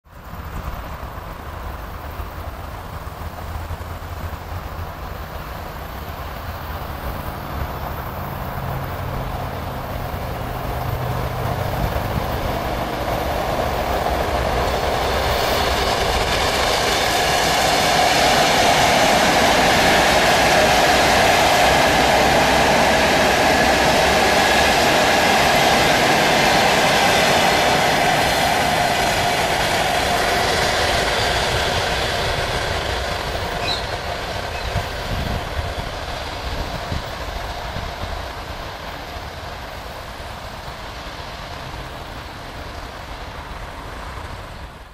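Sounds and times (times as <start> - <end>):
train rumbling on rails: 0.0 - 44.9
train hum: 0.1 - 44.9.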